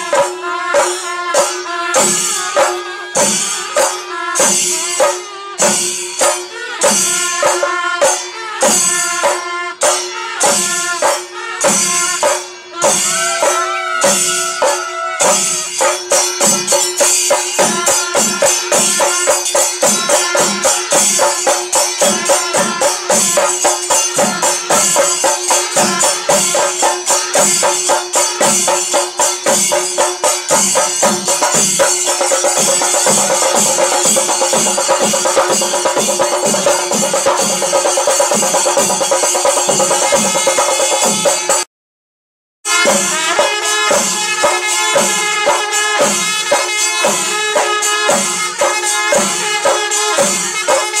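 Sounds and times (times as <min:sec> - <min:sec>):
clashing hand cymbals: 0:00.0 - 0:41.6, 0:42.7 - 0:51.0
drums beaten with sticks: 0:00.0 - 0:41.7, 0:42.7 - 0:51.0.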